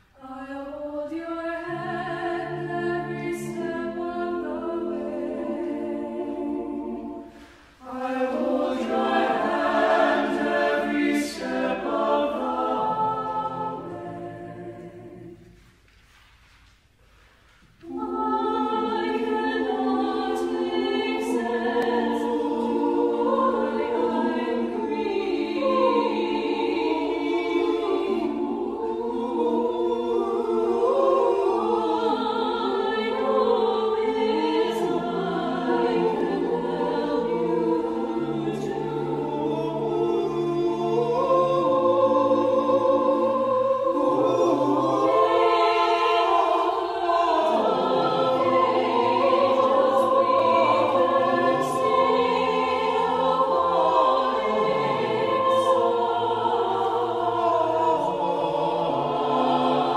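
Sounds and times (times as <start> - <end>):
mixed choir singing: 0.0 - 15.8, 17.7 - 59.9.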